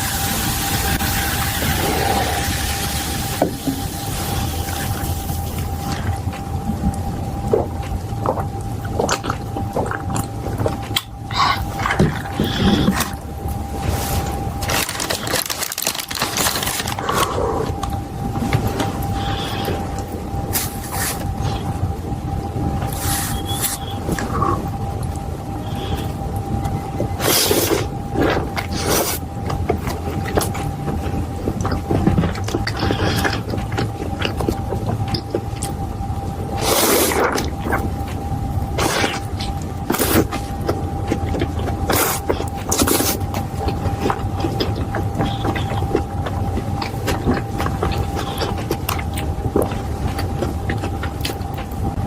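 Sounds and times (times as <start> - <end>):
crunching and chewing food: 0.0 - 52.0
faint constant tone: 0.0 - 52.0
steady low hum: 0.0 - 52.0.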